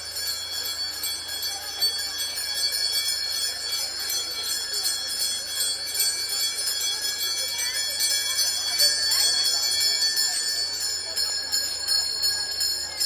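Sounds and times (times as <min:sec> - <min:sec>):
handbells jingling: 0:00.0 - 0:13.0.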